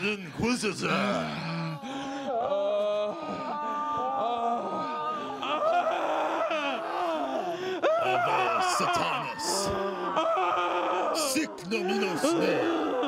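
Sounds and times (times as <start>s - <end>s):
voices moaning and wailing: 0.0s - 13.0s.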